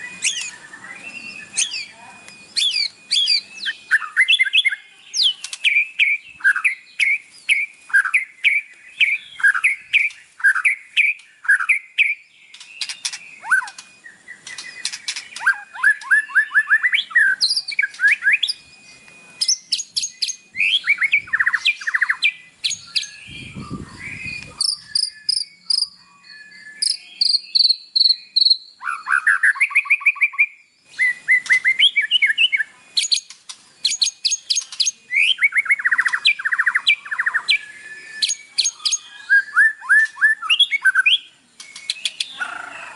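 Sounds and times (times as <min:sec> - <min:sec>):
bird singing whistled notes: 0:00.0 - 0:42.9.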